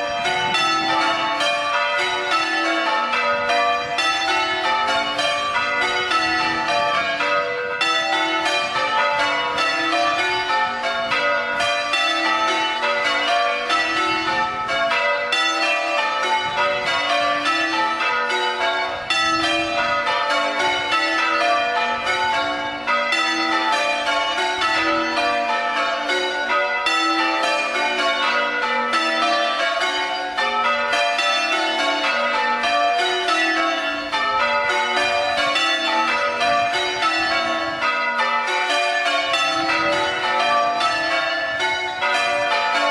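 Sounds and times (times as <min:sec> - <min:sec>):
church bells change ringing: 0:00.0 - 0:42.9.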